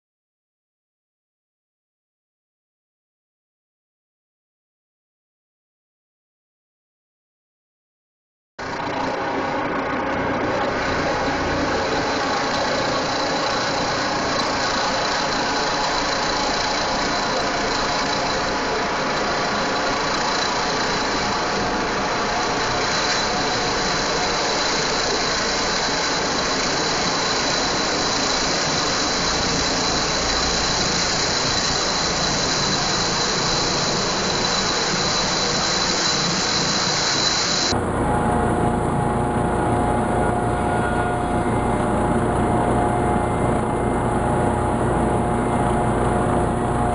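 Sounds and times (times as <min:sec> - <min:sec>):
helicopter flying overhead: 0:08.6 - 0:46.9.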